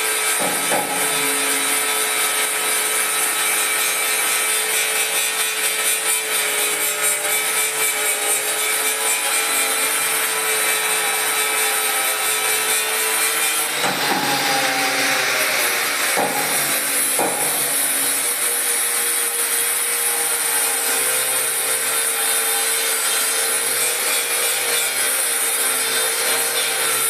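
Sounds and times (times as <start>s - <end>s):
power tool grinding: 0.0s - 27.0s.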